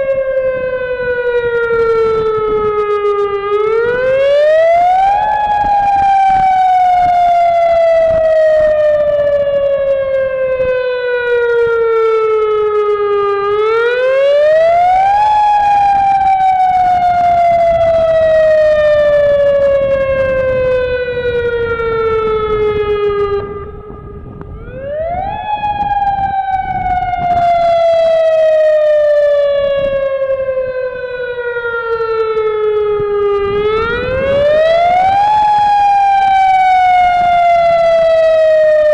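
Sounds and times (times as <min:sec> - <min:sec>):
warning sirens wailing: 0:00.0 - 0:38.9.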